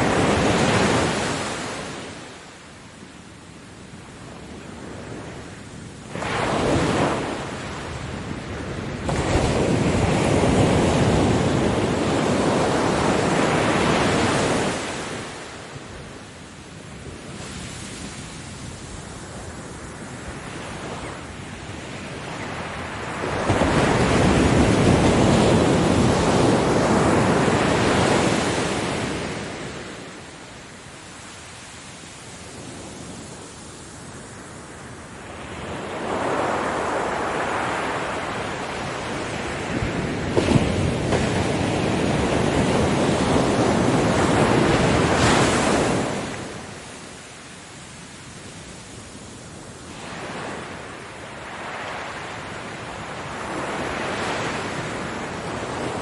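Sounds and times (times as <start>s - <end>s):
steady surf hiss: 0.0s - 56.0s
ocean waves breaking: 4.9s - 56.0s.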